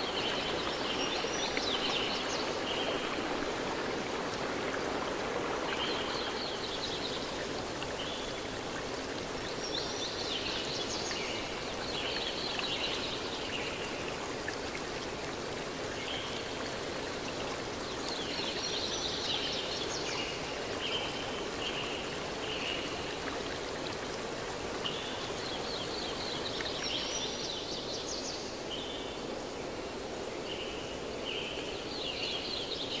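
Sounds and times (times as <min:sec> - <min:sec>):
running water: 0:00.0 - 0:33.0.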